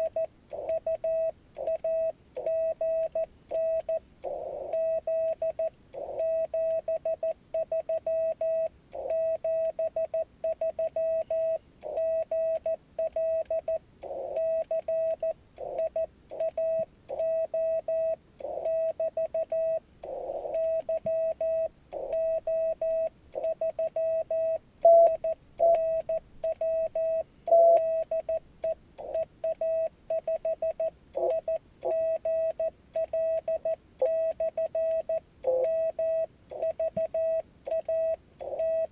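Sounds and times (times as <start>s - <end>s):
morse code tone: 0.0s - 38.9s.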